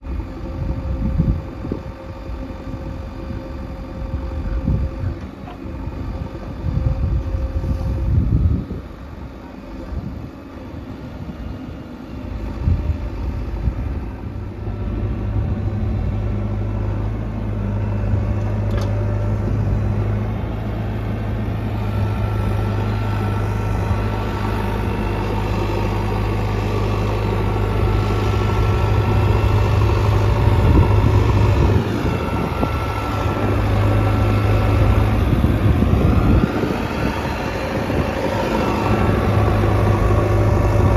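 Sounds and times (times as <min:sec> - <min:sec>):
diesel engine working: 0:00.0 - 0:40.9.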